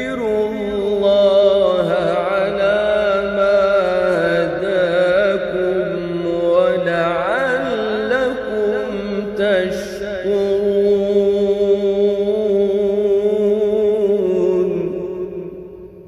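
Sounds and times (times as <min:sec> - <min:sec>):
man reciting melodically: 0:00.0 - 0:15.7.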